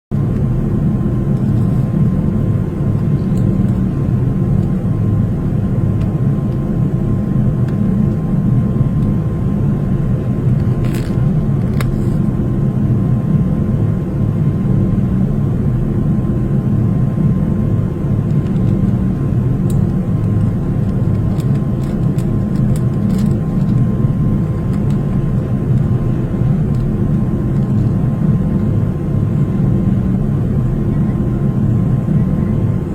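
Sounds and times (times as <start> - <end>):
airliner cabin drone: 0.1 - 32.9.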